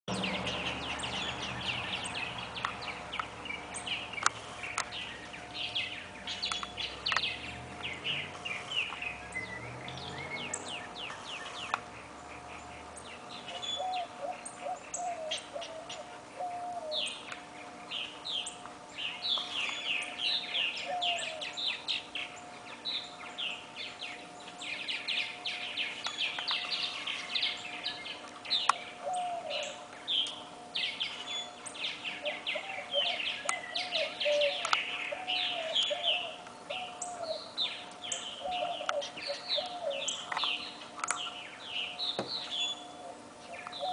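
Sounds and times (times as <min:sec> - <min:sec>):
songbirds singing: 0:00.1 - 0:43.9.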